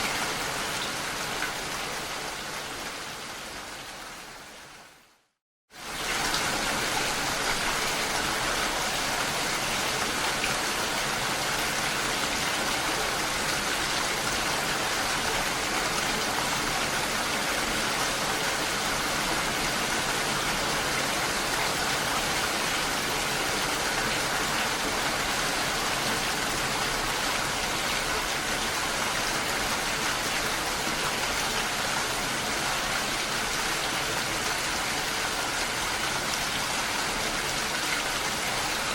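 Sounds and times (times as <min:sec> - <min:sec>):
rain falling on a lake: 0:00.0 - 0:38.9.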